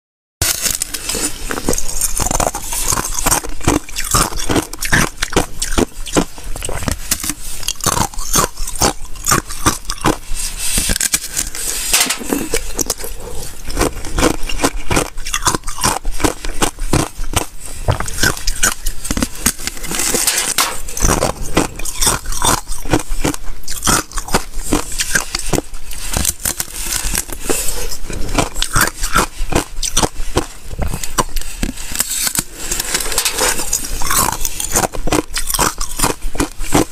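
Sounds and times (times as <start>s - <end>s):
chewing brittle ice crunching: 0.4s - 36.9s.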